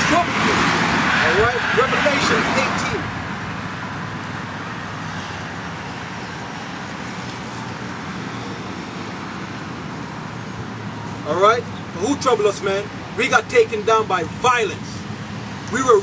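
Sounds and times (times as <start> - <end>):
cars passing on busy road: 0.0 - 16.0.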